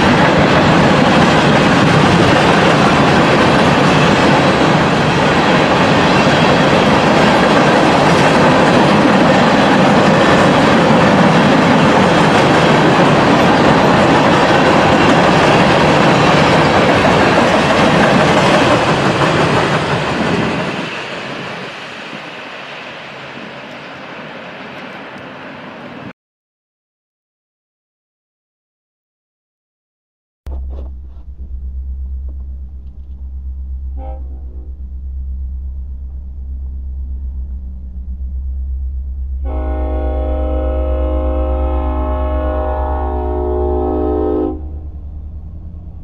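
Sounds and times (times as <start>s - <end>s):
freight train wheels rumbling on track: 0.0s - 26.1s, 30.5s - 46.0s.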